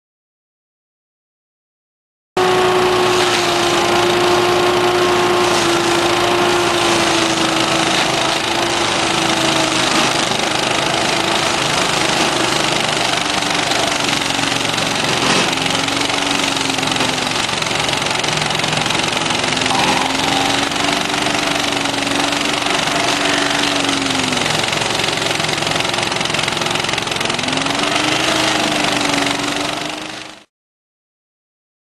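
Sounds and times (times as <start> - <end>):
cutter wheel grinding stump: 2.4 - 30.5
stump grinder engine running: 2.4 - 30.5.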